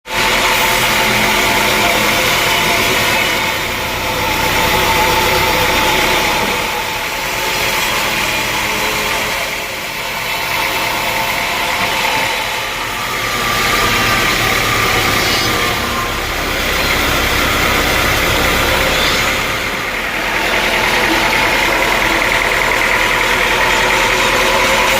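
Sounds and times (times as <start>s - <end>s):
sawmill machinery drone: 0.0s - 24.9s.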